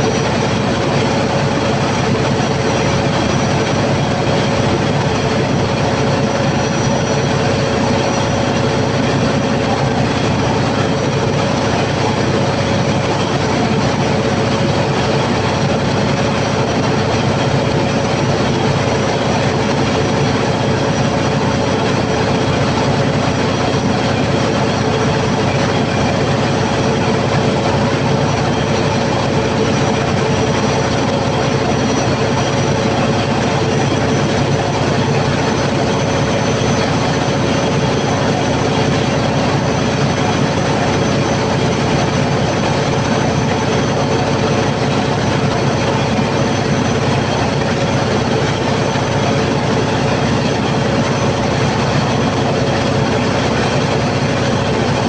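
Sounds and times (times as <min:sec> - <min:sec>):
diesel generator roaring: 0:00.0 - 0:55.0.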